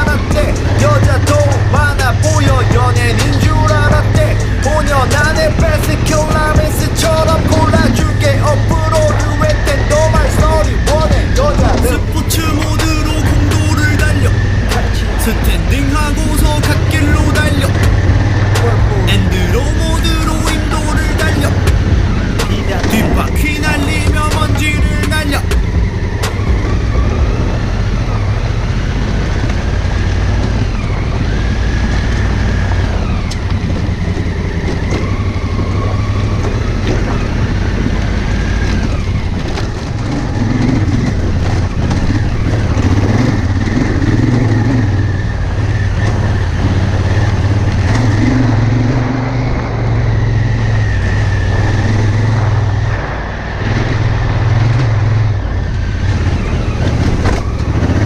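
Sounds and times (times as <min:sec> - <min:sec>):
motorcycle engine running: 0:00.0 - 0:58.0
road noise rushing: 0:00.0 - 0:58.0.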